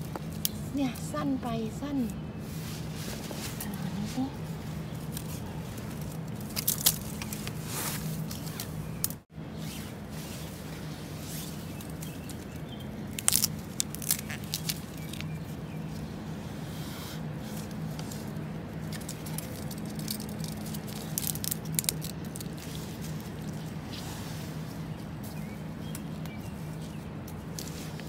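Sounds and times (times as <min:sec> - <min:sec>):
bamboo leaves crackling: 0:00.0 - 0:16.2, 0:17.3 - 0:28.0.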